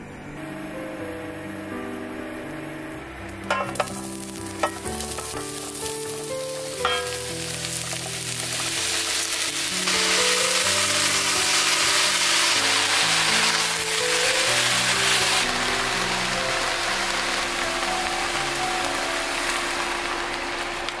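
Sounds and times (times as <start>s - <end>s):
background music: 0.0s - 21.0s
vegetables sizzling in hot oil: 3.4s - 21.0s.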